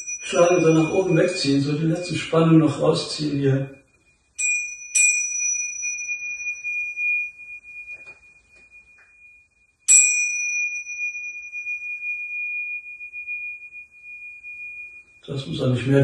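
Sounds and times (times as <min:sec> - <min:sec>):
hand cymbals ringing: 0:00.0 - 0:16.0.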